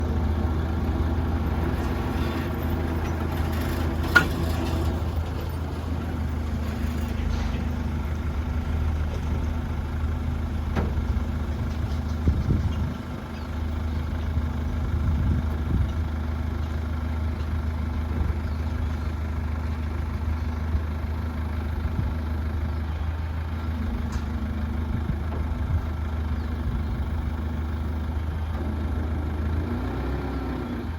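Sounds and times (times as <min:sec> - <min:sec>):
heavy engine idling: 0:00.0 - 0:30.9.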